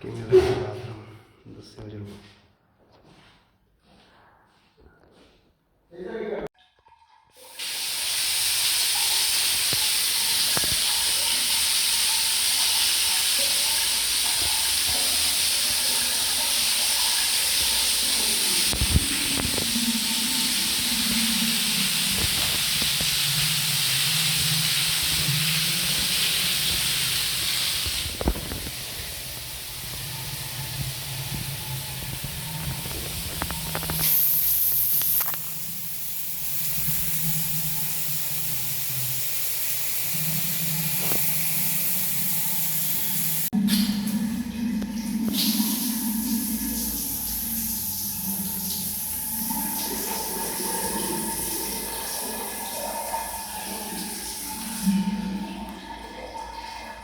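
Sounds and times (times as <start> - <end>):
water spraying from tap: 7.4 - 44.2, 44.8 - 55.8.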